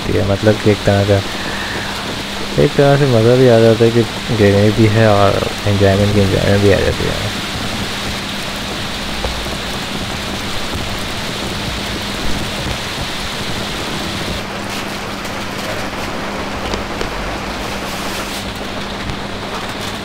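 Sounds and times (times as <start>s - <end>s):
heavy rain: 0.0s - 20.0s
raindrops tapping: 0.1s - 20.0s.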